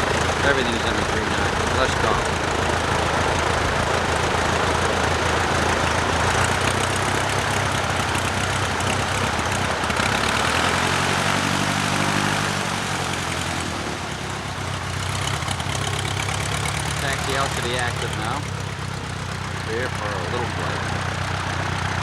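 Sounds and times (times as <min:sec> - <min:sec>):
light aircraft engine running: 0:00.0 - 0:22.0.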